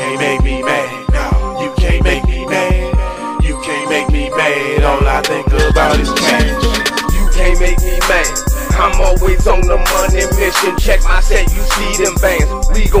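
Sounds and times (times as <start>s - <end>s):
hip hop music with vocals: 0.0s - 13.0s.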